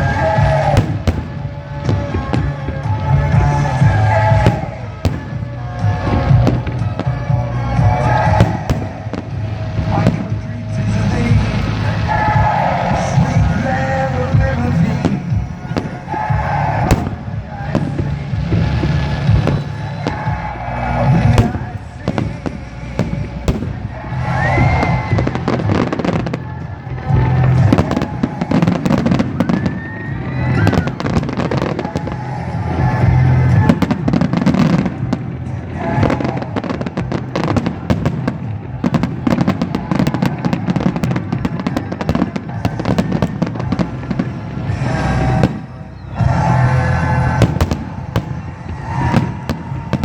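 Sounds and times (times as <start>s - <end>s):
fireworks crackling and banging: 0.0s - 50.0s
music playing: 0.0s - 50.0s
rising firework whistles: 0.0s - 50.0s.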